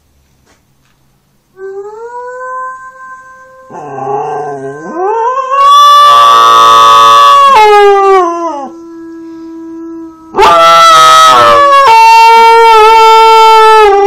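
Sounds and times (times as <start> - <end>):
dog howling: 1.6 - 14.0.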